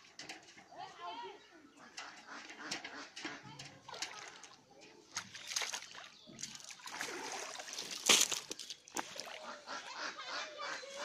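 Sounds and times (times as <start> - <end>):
pond water sloshing and splashing: 1.9 - 11.0.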